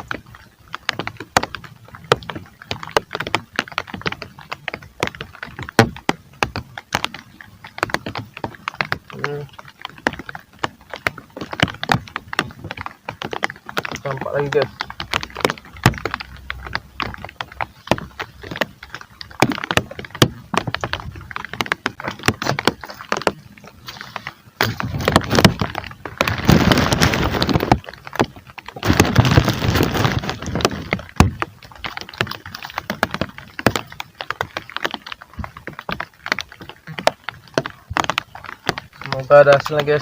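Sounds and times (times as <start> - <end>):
raindrops tapping on a surface: 0.0 - 40.0.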